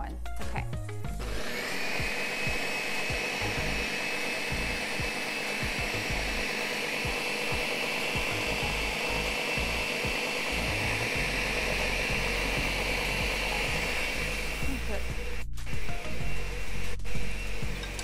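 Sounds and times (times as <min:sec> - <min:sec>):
blender running at high speed: 0:01.0 - 0:18.0.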